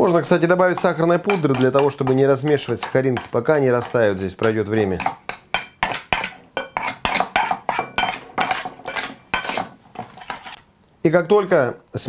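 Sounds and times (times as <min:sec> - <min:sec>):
metal spoon scraping a metal bowl: 0:00.7 - 0:10.6.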